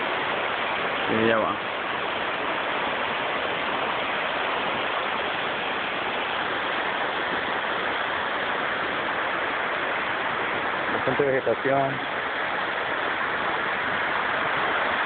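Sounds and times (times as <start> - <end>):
river water rushing over rock: 0.0 - 15.0.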